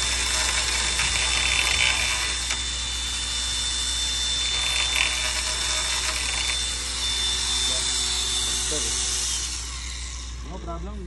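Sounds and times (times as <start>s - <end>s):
cordless drill whirring with high whine: 0.0s - 11.0s.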